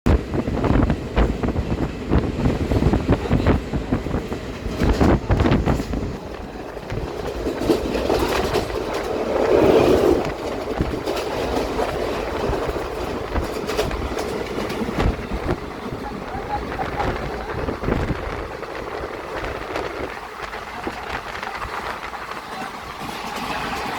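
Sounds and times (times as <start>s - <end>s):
clacks and knocks of train: 0.0s - 23.9s
train wheels rumbling on track: 0.0s - 23.9s.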